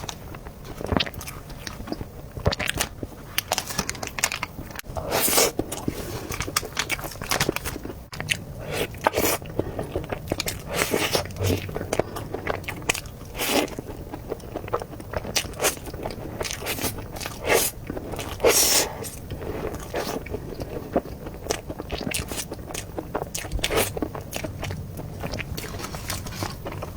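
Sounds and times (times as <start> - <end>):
chewing soft cake: 0.0 - 26.9.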